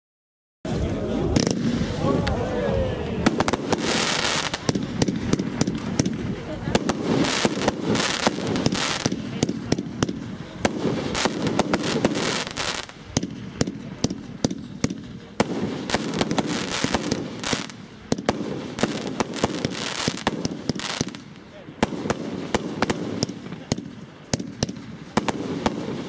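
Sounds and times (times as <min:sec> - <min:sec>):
fireworks bangs and pops: 0:00.7 - 0:26.0
fireworks crackle and hiss: 0:00.7 - 0:26.0.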